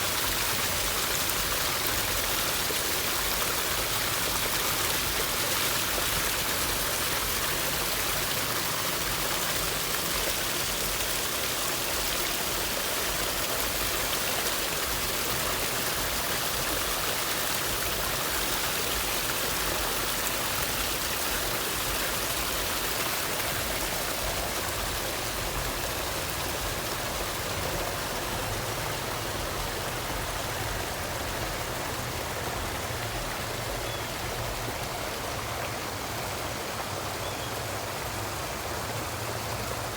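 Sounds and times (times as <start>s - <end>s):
water feature running: 0.0s - 39.9s.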